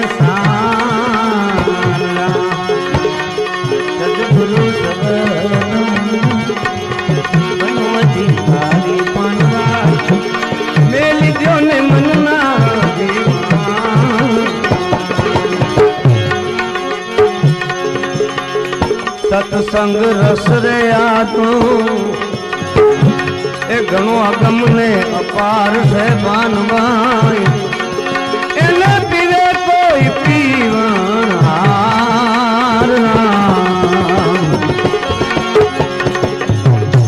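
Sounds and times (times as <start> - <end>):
held melodic notes: 0.0 - 37.0
tabla rhythm: 0.0 - 37.0.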